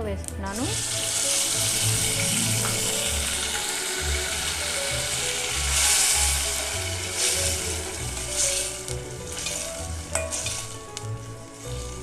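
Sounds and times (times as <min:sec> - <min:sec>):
tomato sizzling in hot oil: 0:00.4 - 0:12.0.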